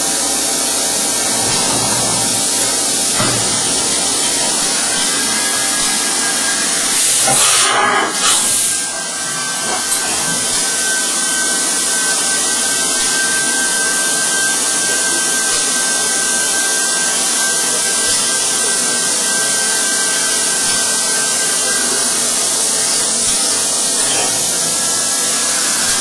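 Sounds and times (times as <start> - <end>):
high steady whine: 0.0 - 26.0
milling machine hiss: 0.0 - 26.0.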